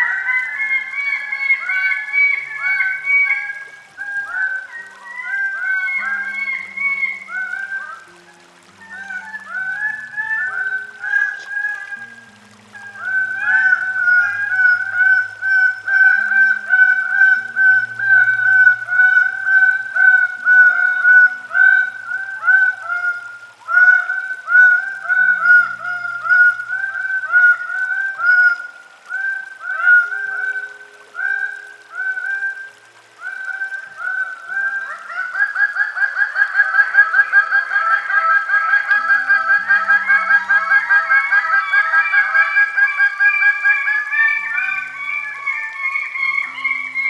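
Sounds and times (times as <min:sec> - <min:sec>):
birds honking calls: 0:00.0 - 0:47.0.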